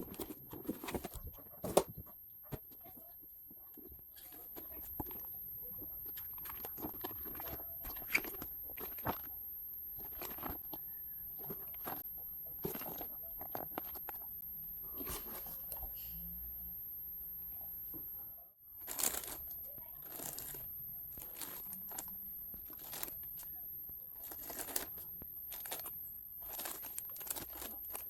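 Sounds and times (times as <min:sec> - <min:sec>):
cardboard and plastic rustling: 0:00.0 - 0:09.4, 0:10.0 - 0:14.2, 0:18.8 - 0:28.0.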